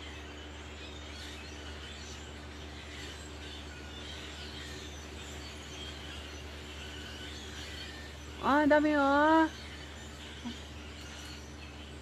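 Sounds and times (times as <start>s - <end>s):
flock of blackbirds chirping: 0.0s - 12.0s
steady low hum: 0.0s - 12.0s.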